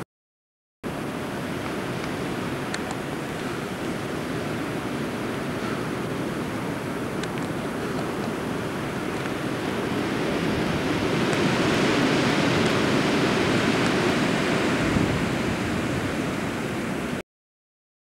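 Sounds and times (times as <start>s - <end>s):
wind on microphone: 1.0s - 17.2s.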